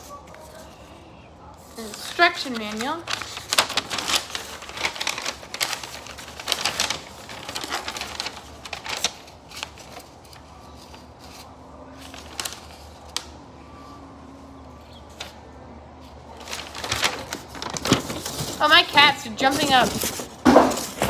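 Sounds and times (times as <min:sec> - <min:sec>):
paper rustling: 0:00.0 - 0:14.0, 0:14.8 - 0:21.0.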